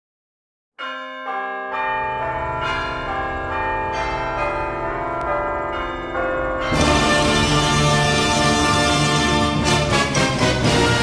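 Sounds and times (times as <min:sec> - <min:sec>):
bells ringing: 0:00.8 - 0:11.0.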